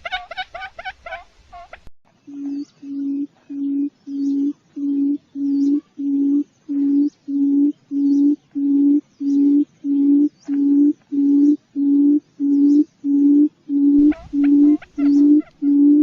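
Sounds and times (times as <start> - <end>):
higher chirps: 2.3 - 16.0
quail lure call hooting: 2.3 - 16.0.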